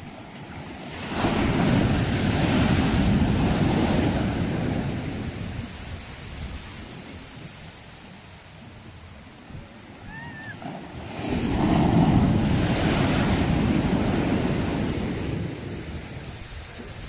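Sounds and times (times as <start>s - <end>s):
sea wave breaking: 0.0s - 7.5s, 9.8s - 17.0s.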